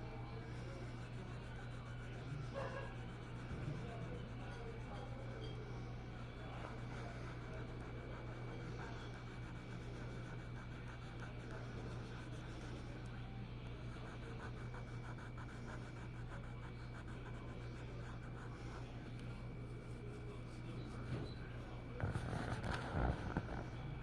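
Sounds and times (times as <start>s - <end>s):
scratchy strokes on paper: 0.0s - 23.8s
low electrical hum: 0.0s - 24.0s.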